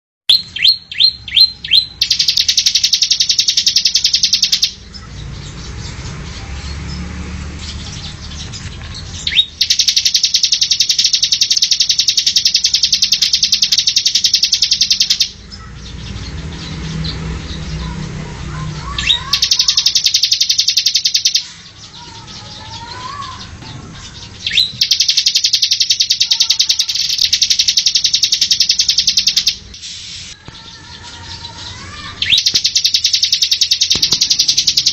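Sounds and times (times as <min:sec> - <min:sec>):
bird singing high trills: 0:00.3 - 0:07.0, 0:07.7 - 0:18.0, 0:18.8 - 0:34.9.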